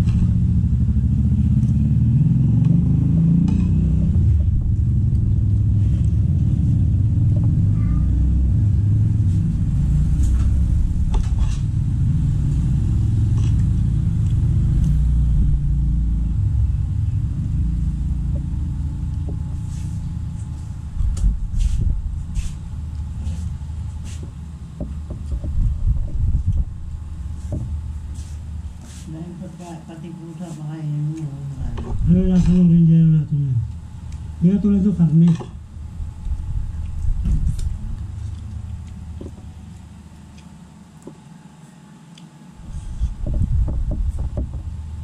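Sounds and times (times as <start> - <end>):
loud low rumble: 0.0 - 28.8, 31.4 - 39.7.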